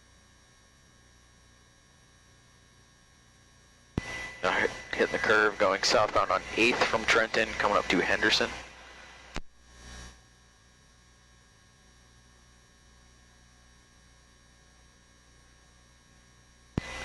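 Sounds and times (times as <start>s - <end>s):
faint electrical hum and hiss: 0.0s - 17.0s.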